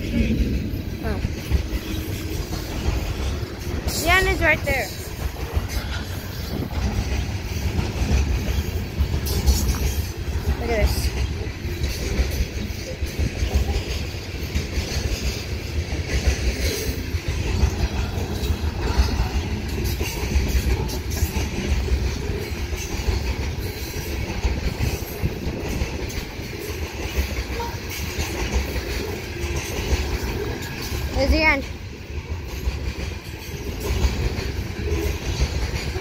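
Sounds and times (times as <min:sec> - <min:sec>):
freight train rumbling past: 0:00.0 - 0:36.0
wheels clacking on rails: 0:00.0 - 0:36.0.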